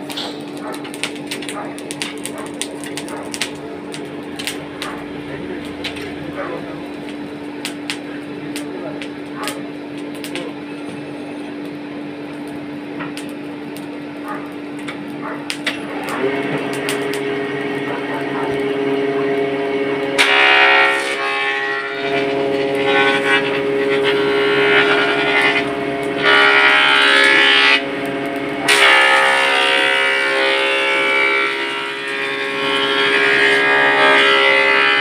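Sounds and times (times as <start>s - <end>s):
air blower whine: 0.0s - 35.0s.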